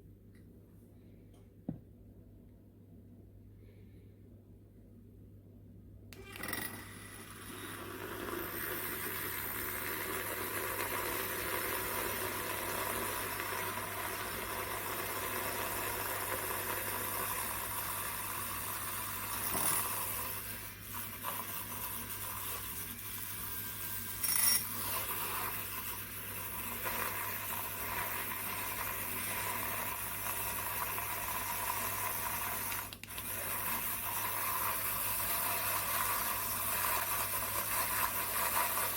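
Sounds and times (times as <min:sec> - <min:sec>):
milk frother humming: 0:06.2 - 0:38.9
milk frothing hiss: 0:06.9 - 0:24.1, 0:24.7 - 0:38.9.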